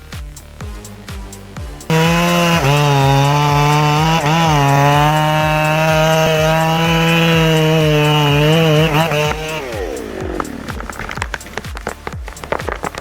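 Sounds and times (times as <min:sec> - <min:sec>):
chainsaw engine at full throttle: 0:01.9 - 0:13.0.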